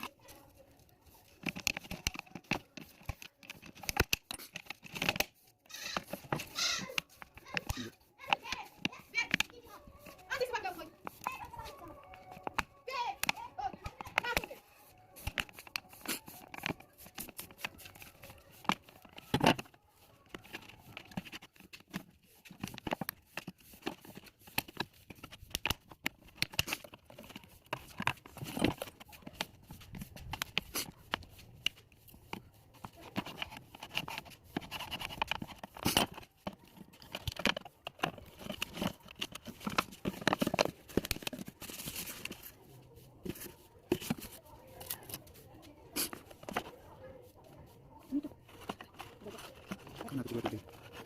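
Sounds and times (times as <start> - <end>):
plastic bottle crinkling: 0.0 - 51.0.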